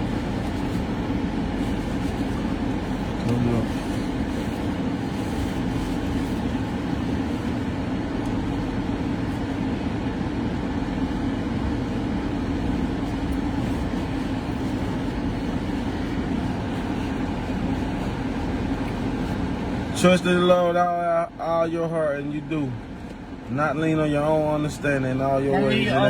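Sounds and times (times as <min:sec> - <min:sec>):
low hum with hiss: 0:00.0 - 0:26.0.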